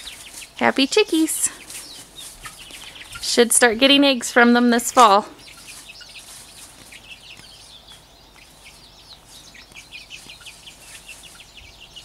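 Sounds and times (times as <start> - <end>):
young hens chirping and clucking: 0.0 - 12.0.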